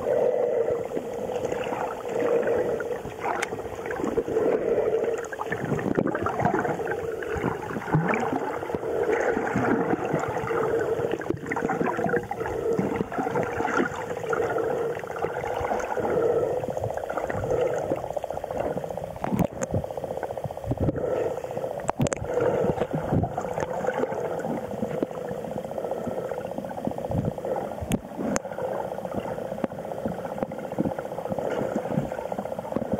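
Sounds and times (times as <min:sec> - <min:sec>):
muffled underwater drone: 0:00.0 - 0:32.9
water gurgling: 0:00.0 - 0:32.9.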